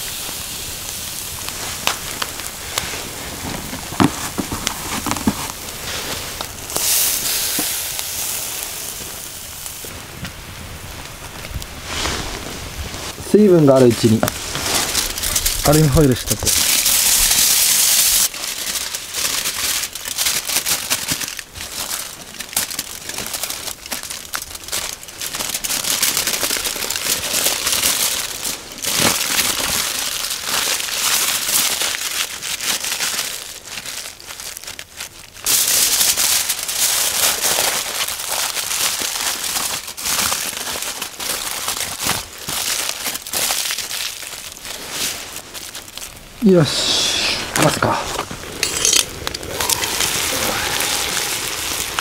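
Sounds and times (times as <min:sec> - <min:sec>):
aluminium foil crinkling: 0:00.0 - 0:10.2, 0:10.9 - 0:46.5, 0:47.6 - 0:52.0.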